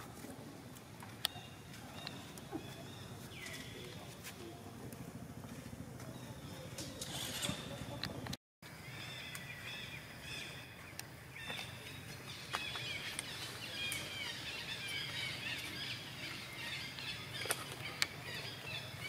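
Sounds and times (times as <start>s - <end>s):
steady low hum: 0.0s - 19.0s
small birds chirping: 1.1s - 4.9s, 6.0s - 19.0s.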